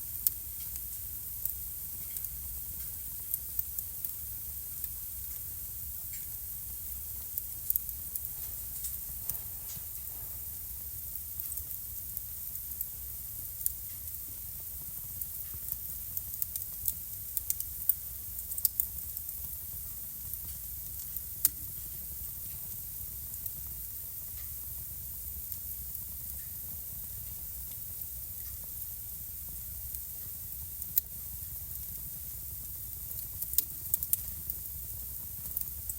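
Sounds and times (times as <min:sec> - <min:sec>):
fire crackling and popping: 0:00.0 - 0:35.9
fire hissing softly: 0:00.0 - 0:35.9.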